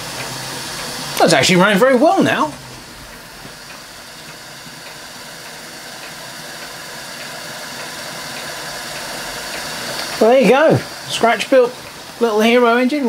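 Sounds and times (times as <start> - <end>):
steam hissing from spinning jets: 0.0 - 13.0.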